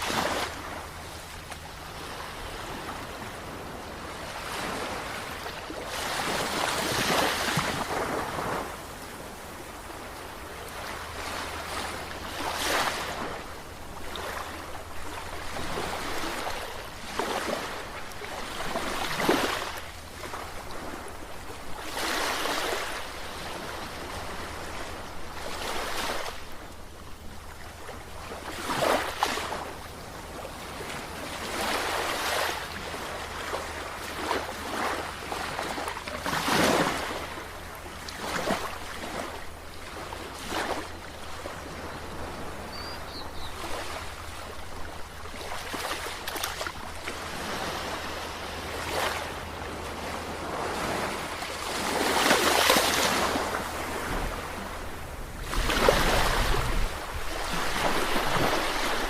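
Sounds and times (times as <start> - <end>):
sea waves washing in: 0.0 - 59.0.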